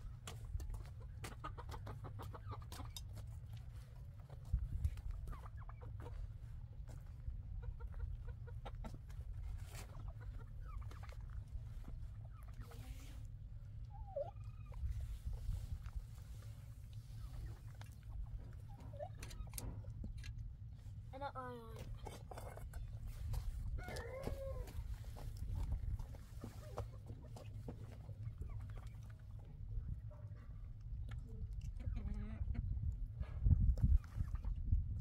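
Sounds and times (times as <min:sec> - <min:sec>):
chickens clucking: 0:00.0 - 0:35.0
steady low rumble: 0:00.0 - 0:35.0.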